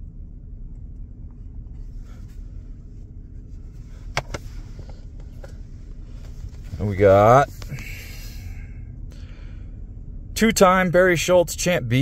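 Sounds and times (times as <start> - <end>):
low hum in truck cab: 0.0 - 12.0.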